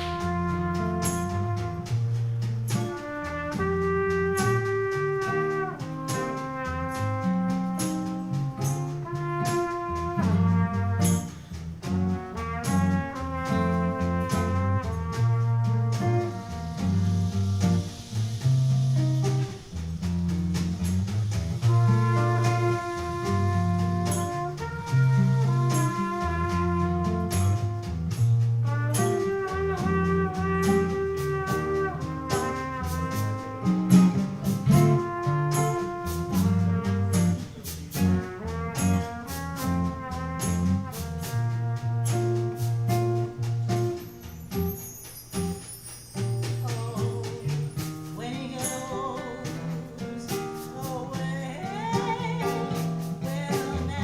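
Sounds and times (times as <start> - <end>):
trumpet melody: 0.0 - 20.9, 21.5 - 54.0
walking guitar bass line: 0.0 - 44.7
percussion hits: 0.0 - 54.0.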